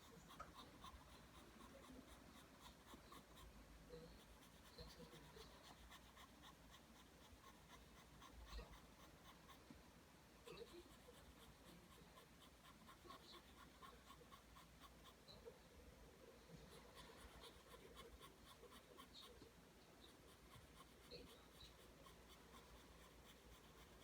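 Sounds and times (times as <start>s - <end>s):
pencil scratching on paper: 0.0s - 9.8s, 10.4s - 15.6s, 16.4s - 24.0s.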